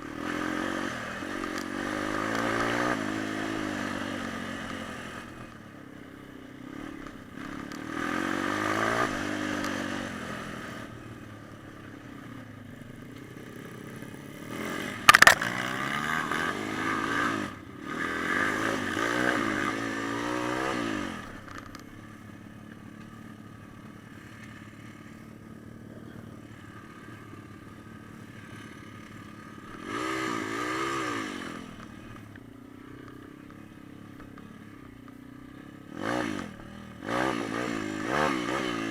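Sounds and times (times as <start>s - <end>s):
small motorcycle engine revving: 0.0s - 38.9s.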